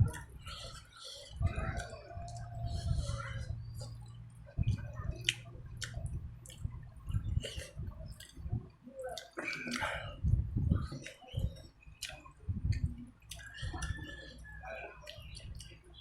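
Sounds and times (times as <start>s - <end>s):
lip smacks: 0.1s - 10.2s, 10.8s - 15.8s
mouth clicks: 0.1s - 15.8s
wet chewing: 0.1s - 16.0s.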